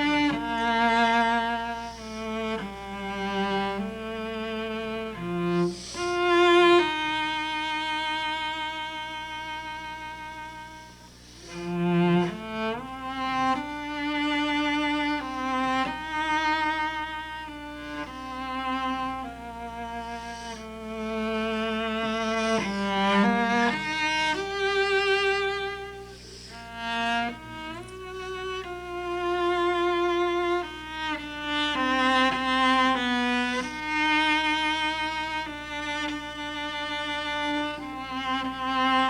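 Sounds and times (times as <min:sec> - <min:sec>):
solo cello melody: 0:00.0 - 0:39.0.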